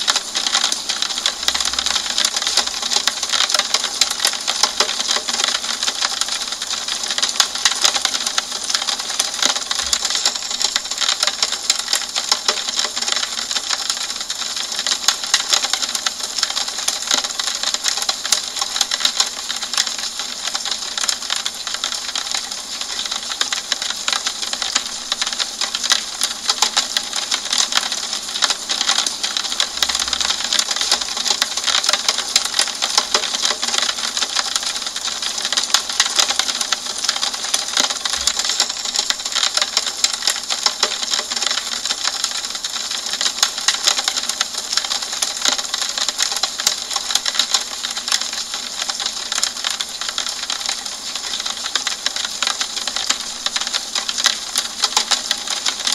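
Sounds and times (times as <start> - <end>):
rain on a window: 0.0 - 55.9.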